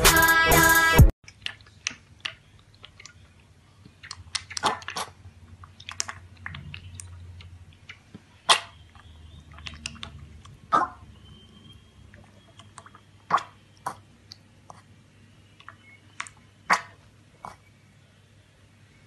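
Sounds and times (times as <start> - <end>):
piglet slurping and smacking: 1.2 - 11.5, 12.1 - 17.7.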